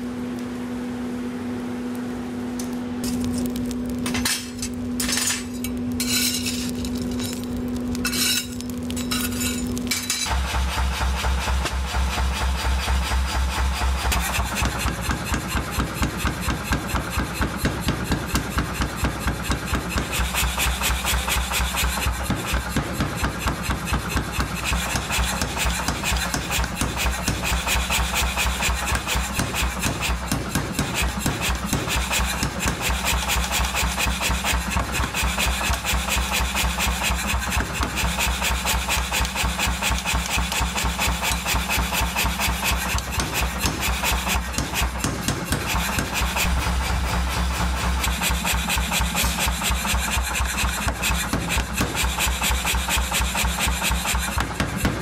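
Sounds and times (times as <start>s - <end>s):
low machine hum: 0.0s - 55.0s
power hammer pounding hot steel: 2.6s - 55.0s.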